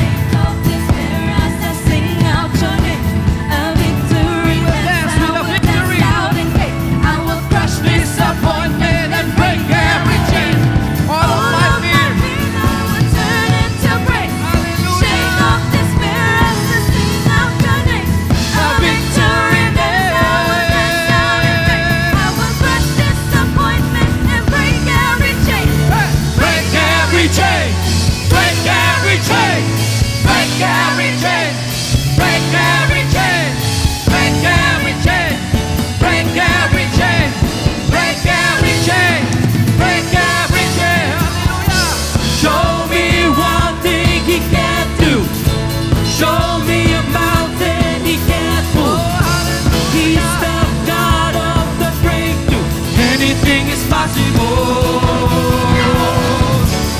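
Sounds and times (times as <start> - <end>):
live rock band playing: 0.0 - 56.9
person singing: 0.0 - 56.9.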